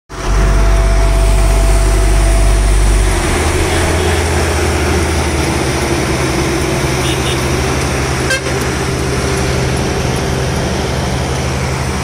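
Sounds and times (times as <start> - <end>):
paver engine humming: 0.1 - 12.0
road roller engine pulsing: 0.1 - 12.0.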